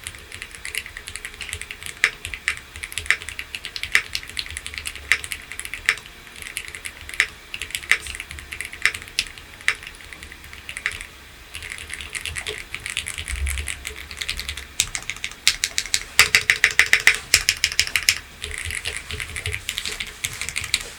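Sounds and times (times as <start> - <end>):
mechanical keyboard typing: 0.0 - 20.8.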